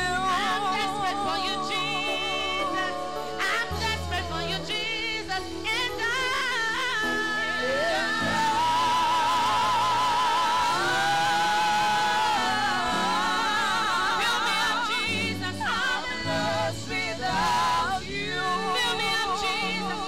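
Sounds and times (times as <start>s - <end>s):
congregation singing gospel: 0.0s - 20.0s.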